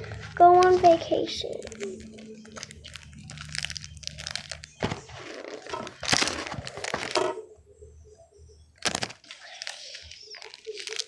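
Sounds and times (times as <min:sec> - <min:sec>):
packaging crinkling and tearing: 0:00.0 - 0:07.4, 0:08.8 - 0:11.0.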